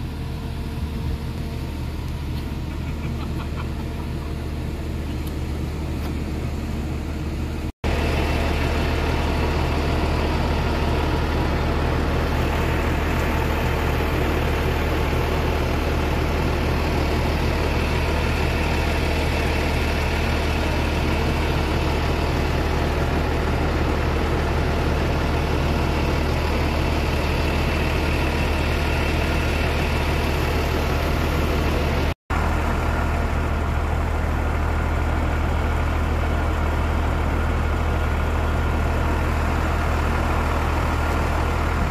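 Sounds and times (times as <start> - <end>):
heavy engine idling: 0.0 - 41.9.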